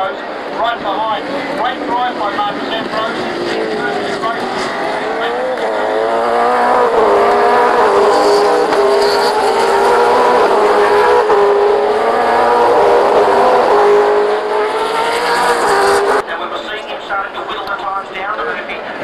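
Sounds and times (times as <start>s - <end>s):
race car engine revving: 0.3s - 16.2s.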